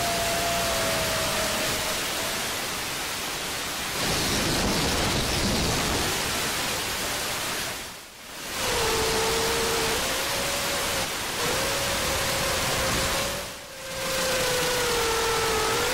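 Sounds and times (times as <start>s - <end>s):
static hiss: 0.0s - 15.9s.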